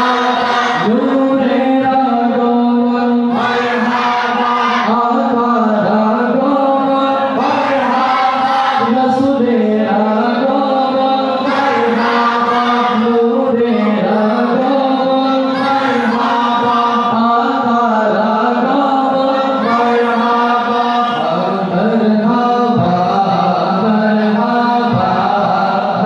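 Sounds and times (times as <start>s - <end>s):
voices chanting devotional poem: 0.0s - 26.0s.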